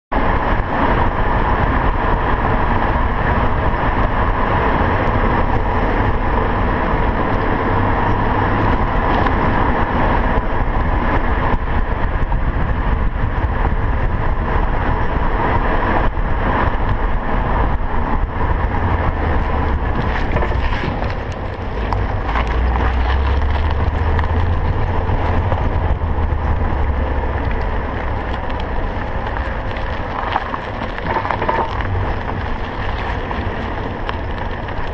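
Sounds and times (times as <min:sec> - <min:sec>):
car driving with road noise: 0:00.1 - 0:34.9.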